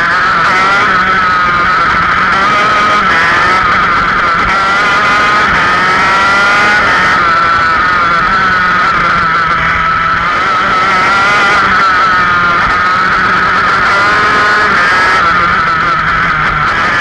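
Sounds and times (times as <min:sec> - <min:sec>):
go-kart engine running hard: 0:00.0 - 0:17.0.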